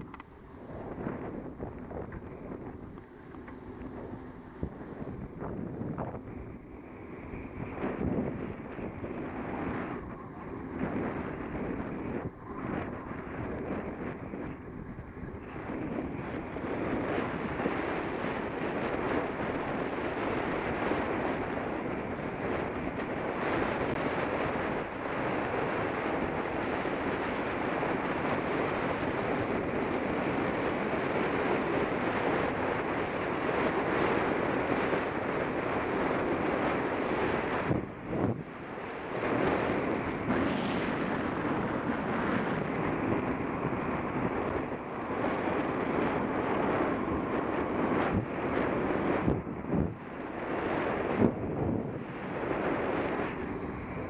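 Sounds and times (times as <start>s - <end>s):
rolling road noise: 0.0s - 54.0s
wind rushing over microphone: 0.0s - 54.0s.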